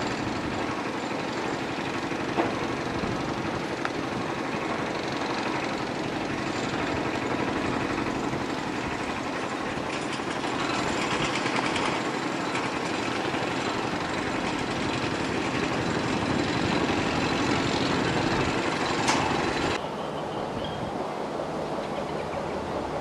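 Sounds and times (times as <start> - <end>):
engine and machinery noise: 0.0 - 23.0.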